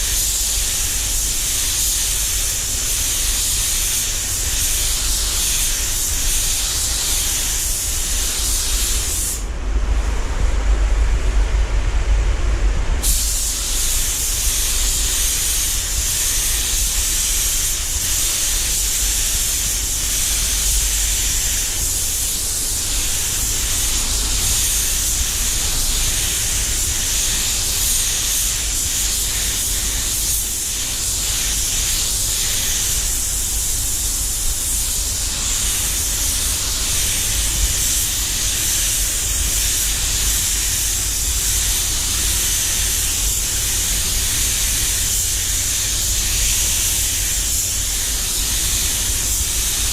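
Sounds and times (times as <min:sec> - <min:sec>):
spray gun hissing: 0:00.0 - 0:10.5, 0:13.0 - 0:49.9.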